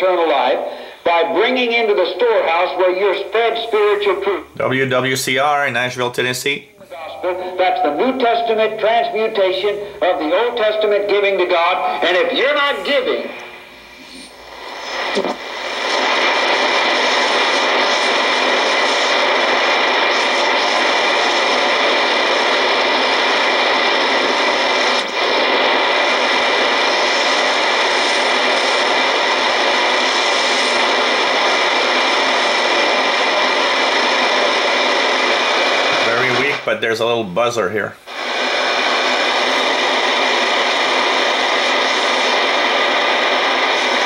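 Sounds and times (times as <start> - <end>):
radio receiver buzzing: 0.0 - 37.2, 38.0 - 44.0.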